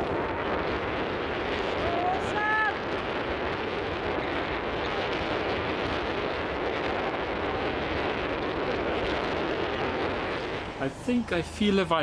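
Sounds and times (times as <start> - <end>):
wind across microphone: 0.0 - 12.0.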